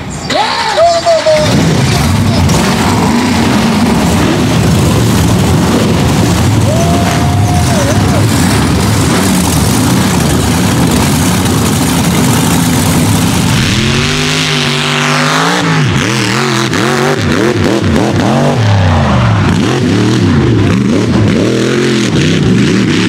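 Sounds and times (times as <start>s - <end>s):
noisy rumble: 0.0s - 23.0s
truck engine at full throttle: 0.0s - 23.0s.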